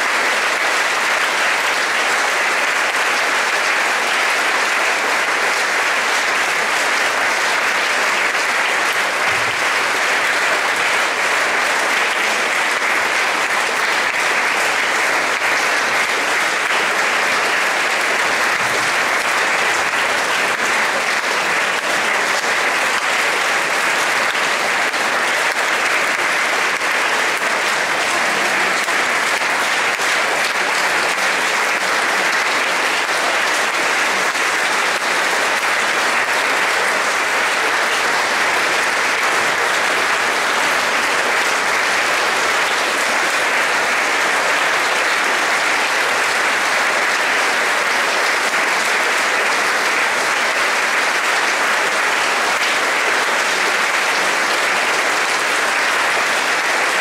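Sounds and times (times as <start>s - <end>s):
audience applauding: 0.0s - 57.0s.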